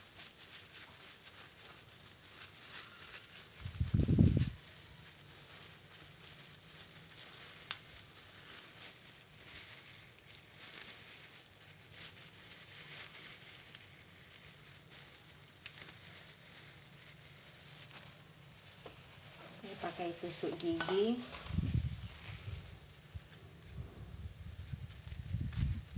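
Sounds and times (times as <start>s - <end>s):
leaf and plastic gloves rustling: 0.0s - 25.9s.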